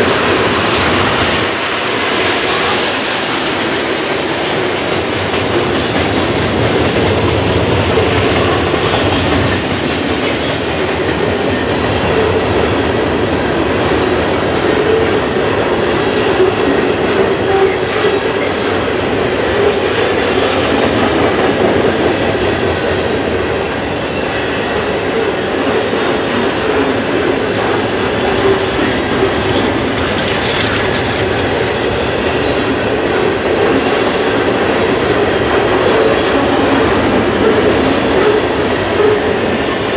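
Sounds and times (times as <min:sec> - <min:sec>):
train wheels rumbling on rails: 0:00.0 - 0:39.9
wheels clicking over rail joints: 0:00.0 - 0:39.9.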